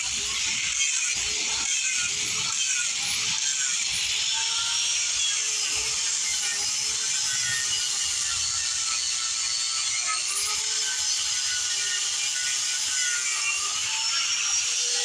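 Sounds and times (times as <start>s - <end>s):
grinder carving wheel cutting wood: 0.0s - 15.0s
motor whine: 0.0s - 15.0s.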